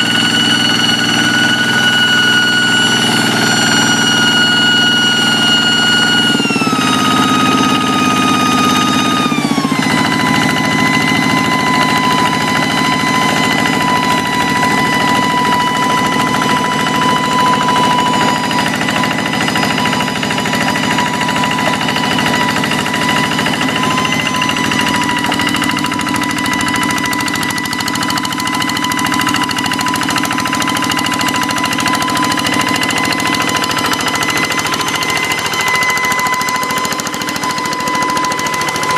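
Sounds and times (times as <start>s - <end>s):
diesel engine chugging: 0.0s - 38.9s
high engine whine: 0.0s - 38.9s.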